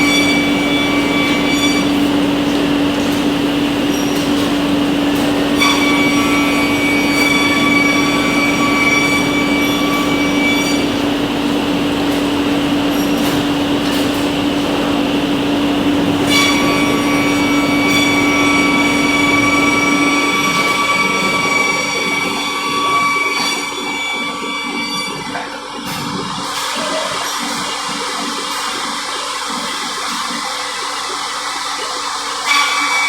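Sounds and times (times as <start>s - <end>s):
high whine of spindles: 0.0s - 33.0s
machine humming and hissing: 0.0s - 33.0s.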